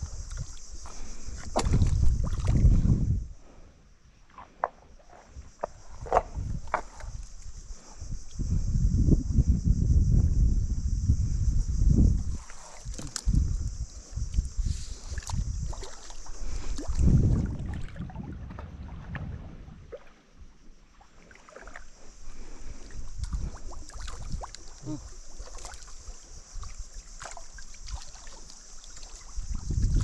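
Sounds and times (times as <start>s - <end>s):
water splashing and sloshing: 0.0s - 8.6s, 12.2s - 30.0s.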